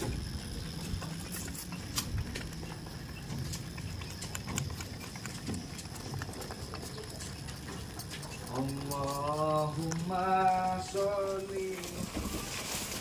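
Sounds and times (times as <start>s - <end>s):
goat hooves clicking: 0.0s - 13.0s.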